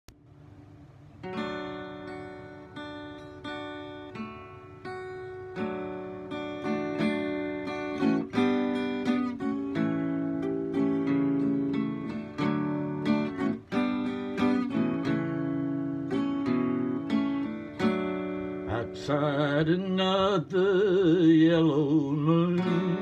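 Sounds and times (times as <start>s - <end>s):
acoustic guitar strumming chords: 1.2s - 23.0s.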